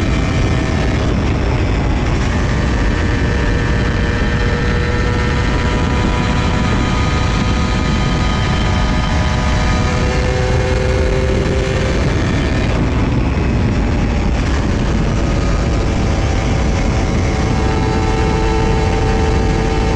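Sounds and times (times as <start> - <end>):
dense low rumble: 0.0 - 19.9
motorcycle engine running: 0.0 - 19.9.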